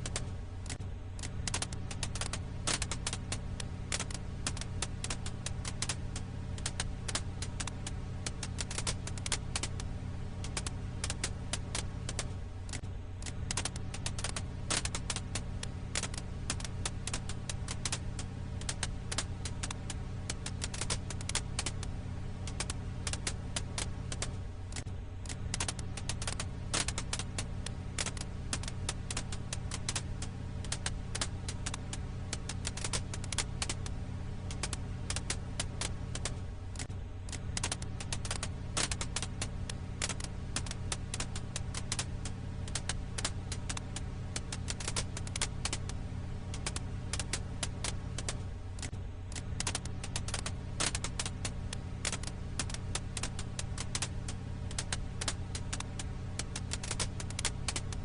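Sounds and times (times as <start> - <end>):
firewood crackling: 0.0 - 58.0
steady low rumble: 0.0 - 58.0.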